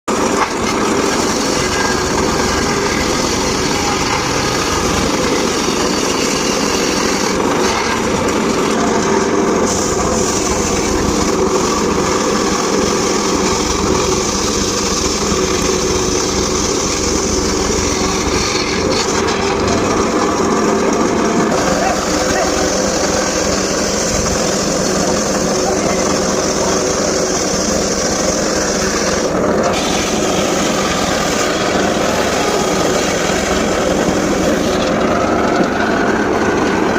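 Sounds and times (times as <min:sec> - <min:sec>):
circular saw cutting wood: 0:00.1 - 0:36.9.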